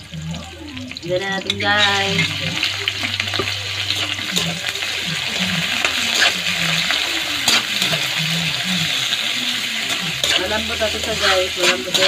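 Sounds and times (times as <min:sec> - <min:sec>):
meat sizzling in a wok: 0:00.0 - 0:12.0
spatula scraping pan: 0:01.4 - 0:12.0.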